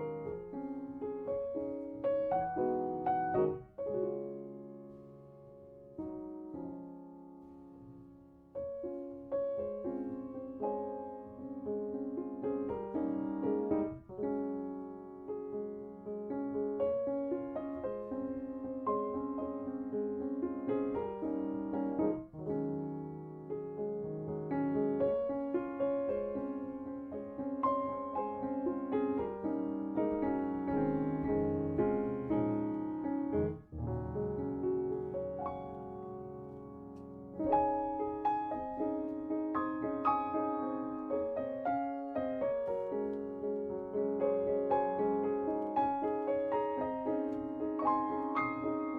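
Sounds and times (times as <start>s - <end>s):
soft piano music: 0.0s - 48.9s.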